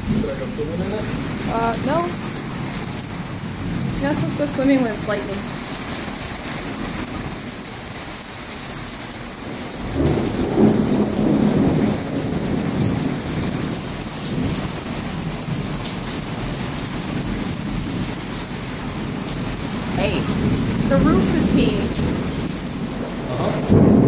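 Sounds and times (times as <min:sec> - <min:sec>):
thunder rumble: 0:00.0 - 0:07.6, 0:09.4 - 0:24.0
heavy rain pouring: 0:00.0 - 0:24.0.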